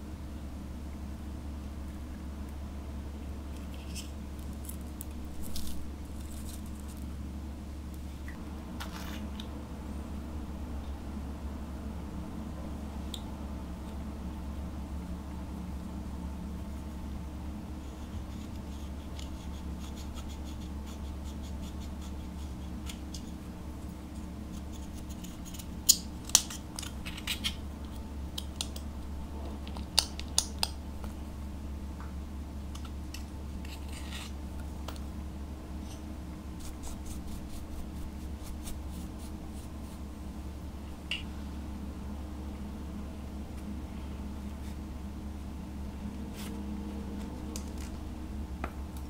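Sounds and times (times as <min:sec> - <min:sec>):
low hum: 0:00.0 - 0:49.0.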